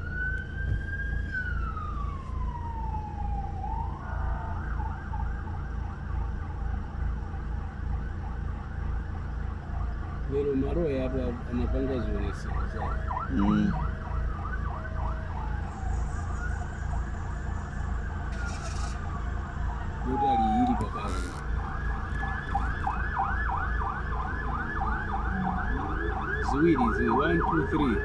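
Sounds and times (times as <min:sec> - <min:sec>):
siren yelping and wailing: 0:00.0 - 0:06.3, 0:07.9 - 0:28.0.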